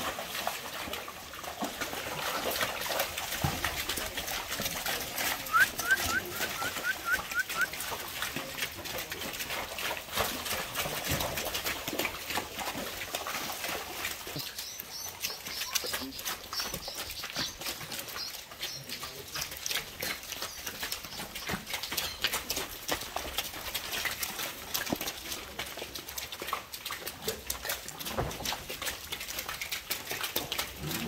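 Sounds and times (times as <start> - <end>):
hooves splashing through mud: 0.0 - 31.0.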